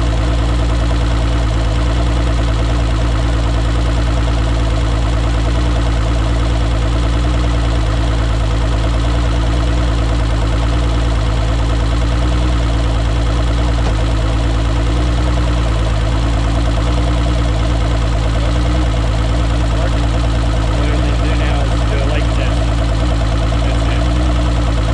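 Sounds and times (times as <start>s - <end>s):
outboard motor idling: 0.0s - 24.9s.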